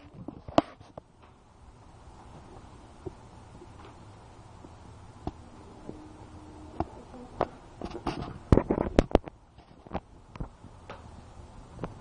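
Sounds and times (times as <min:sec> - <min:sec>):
low steady hiss: 0:00.0 - 0:12.0.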